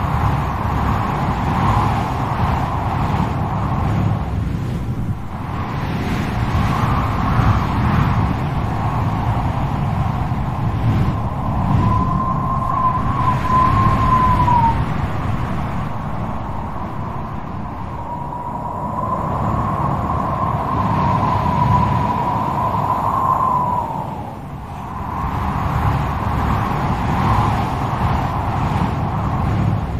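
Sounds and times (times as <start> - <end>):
howling wind whistle: 0.0 - 29.9
strong wind blowing: 0.0 - 29.9.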